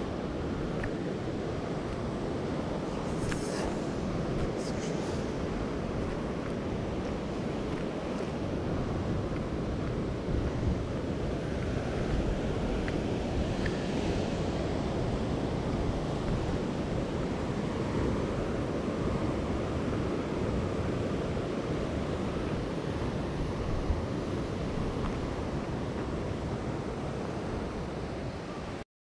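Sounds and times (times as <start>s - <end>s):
wind buffeting microphone: 0.0s - 28.6s
ocean surf: 0.0s - 28.8s.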